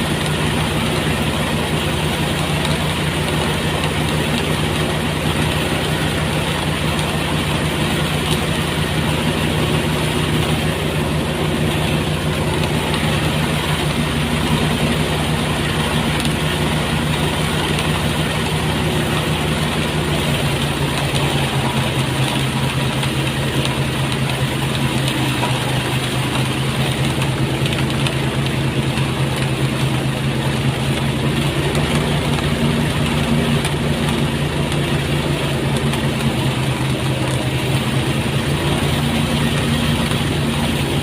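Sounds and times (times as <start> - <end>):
dense rushing noise: 0.0 - 41.0
threshing machine engine humming: 0.0 - 41.0.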